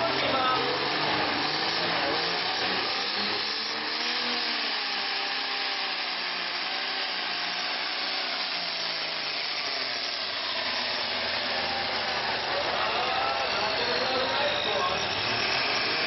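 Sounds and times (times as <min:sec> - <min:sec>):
diesel tractor engine at full load: 0:00.0 - 0:16.0.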